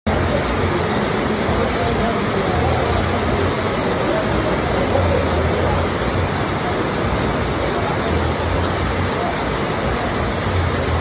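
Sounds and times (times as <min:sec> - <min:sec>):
heavy rain pouring: 0:00.0 - 0:11.0
faint indistinct voices: 0:00.1 - 0:11.0.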